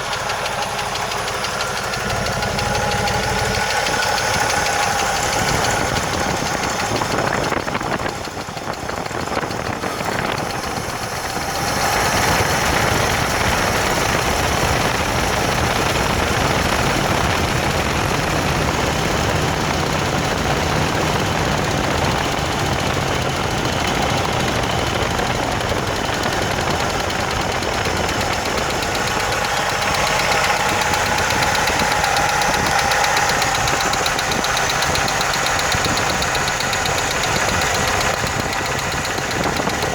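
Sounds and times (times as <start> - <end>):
car engine running with ticking: 0.0 - 39.9.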